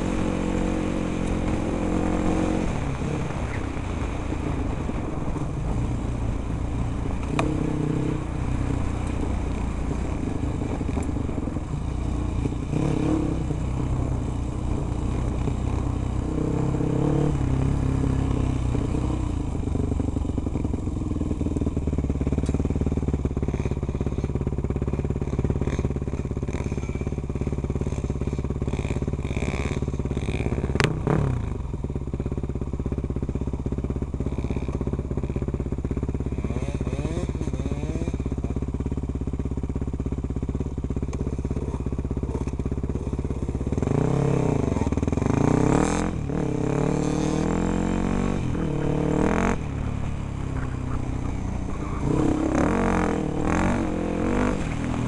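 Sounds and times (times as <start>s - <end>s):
motorcycle engine revving: 0.0s - 55.0s
motorcycle passing by: 0.0s - 55.0s.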